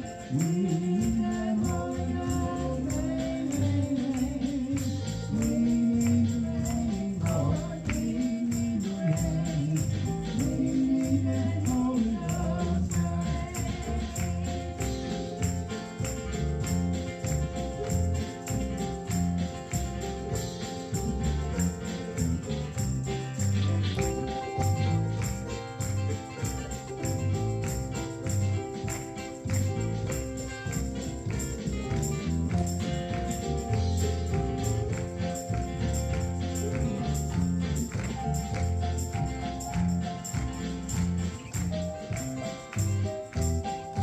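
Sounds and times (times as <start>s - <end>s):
gospel band playing: 0.0s - 44.0s
jingling percussion: 0.0s - 44.0s.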